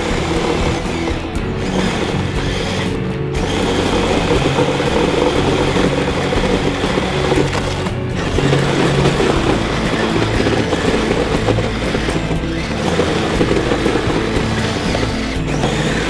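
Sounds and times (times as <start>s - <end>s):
electric motor and tracks running: 0.0s - 16.0s.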